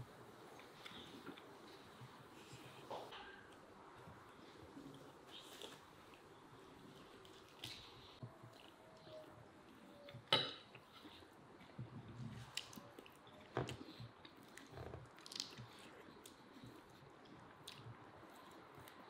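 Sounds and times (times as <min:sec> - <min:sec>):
person chewing food: 0:03.5 - 0:19.0.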